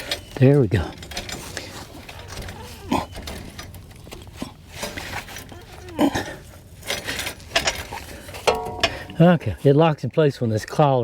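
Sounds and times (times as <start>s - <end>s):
metal clicks and clinks: 0.0s - 9.3s.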